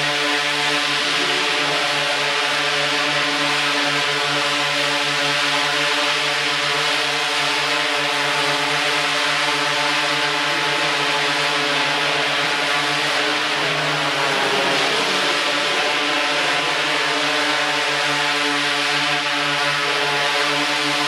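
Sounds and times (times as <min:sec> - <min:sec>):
quadcopter propellers buzzing: 0:00.0 - 0:21.0.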